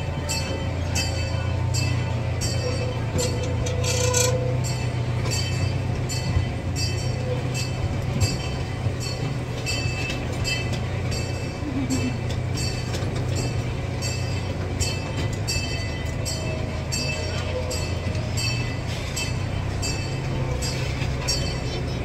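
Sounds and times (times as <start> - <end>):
ride train engine hum: 0.0 - 22.0.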